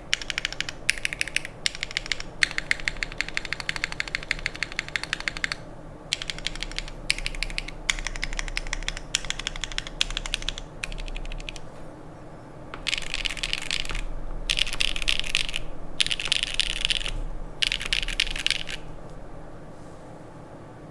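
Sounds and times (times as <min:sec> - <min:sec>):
mechanical keyboard typing: 0:00.0 - 0:11.7, 0:12.8 - 0:18.9.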